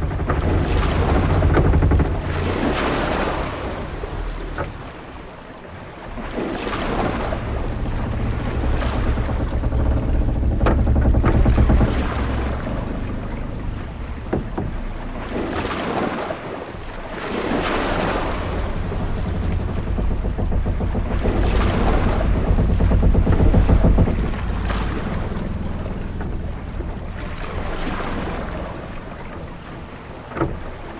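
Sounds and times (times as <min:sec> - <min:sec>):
low wind rumble: 0:00.0 - 0:30.9
ship knocks: 0:00.0 - 0:30.9
waves washing: 0:00.0 - 0:30.9.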